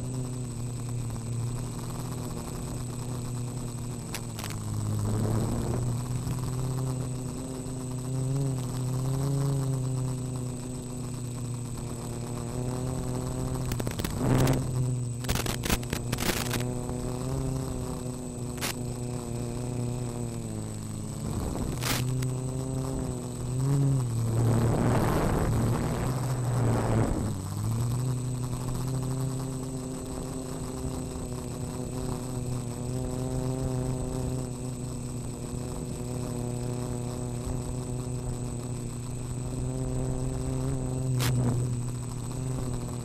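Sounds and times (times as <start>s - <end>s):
quadcopter motors buzzing: 0.0s - 43.0s
thin high whine: 0.0s - 43.0s.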